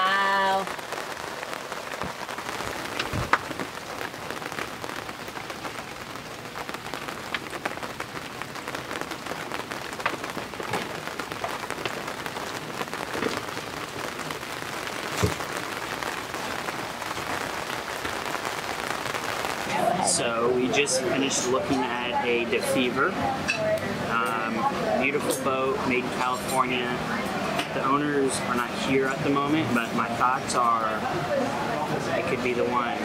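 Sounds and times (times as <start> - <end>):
rain falling on a boat: 0.0 - 33.0.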